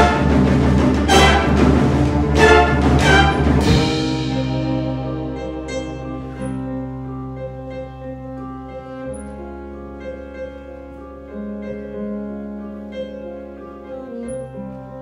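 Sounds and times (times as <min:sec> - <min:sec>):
big band playing jazz: 0:00.0 - 0:15.0.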